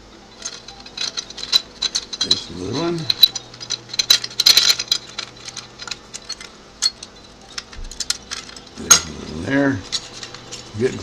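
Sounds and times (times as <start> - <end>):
metal clutch plates clinking: 0.2 - 11.0.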